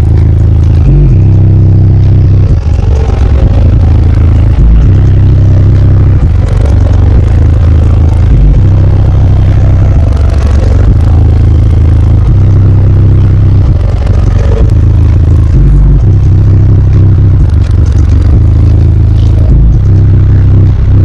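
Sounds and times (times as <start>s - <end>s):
subwoofers playing deep bass: 0.0s - 21.0s.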